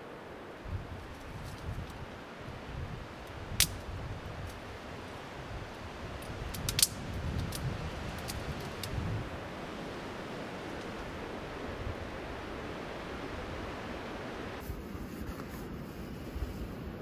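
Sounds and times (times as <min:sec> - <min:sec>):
wood fire crackling: 0:00.0 - 0:14.6
steady rushing noise: 0:00.0 - 0:15.3.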